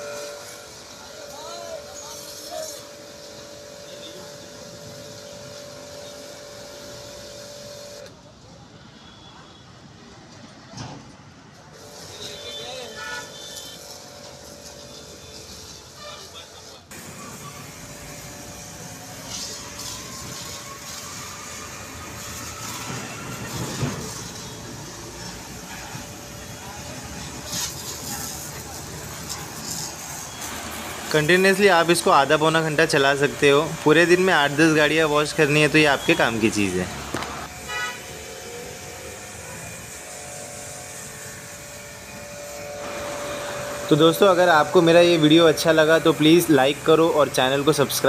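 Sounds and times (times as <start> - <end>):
pressure washer jet hissing: 0.0 - 8.1, 11.7 - 48.0.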